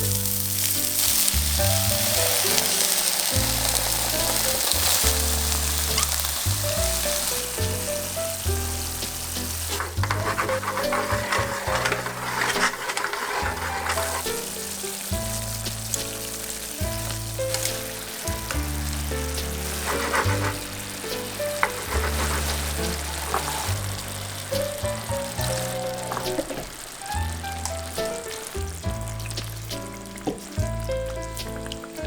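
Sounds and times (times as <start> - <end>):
background music with bass notes: 0.0 - 12.6, 13.4 - 32.0
eggplant sizzling in a frying pan: 0.0 - 32.0.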